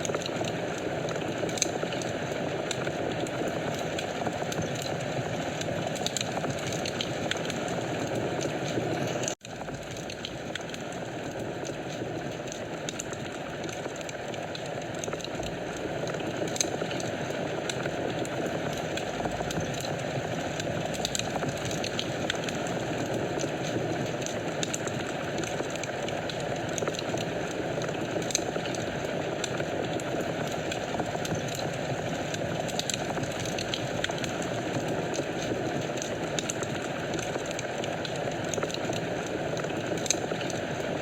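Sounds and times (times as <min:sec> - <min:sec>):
fire crackling and popping: 0:00.0 - 0:41.0
fire flames hissing: 0:00.0 - 0:41.0.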